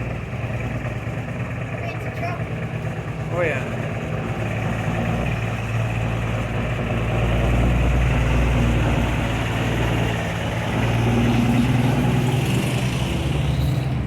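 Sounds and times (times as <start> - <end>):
heavy truck engine rumbling: 0.0 - 14.0.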